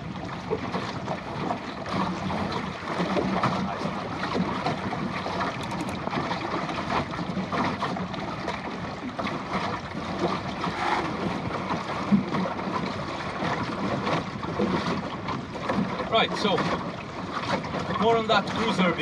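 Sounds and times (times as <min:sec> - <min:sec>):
water slapping hull: 0:00.0 - 0:19.0
water splashing along boat hull: 0:00.0 - 0:19.0
wind: 0:00.0 - 0:19.0.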